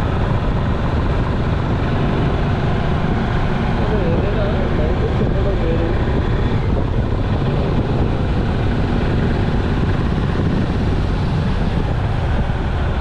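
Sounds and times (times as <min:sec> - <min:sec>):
motorcycle engine: 0:00.0 - 0:13.0
wind rushing: 0:00.0 - 0:13.0.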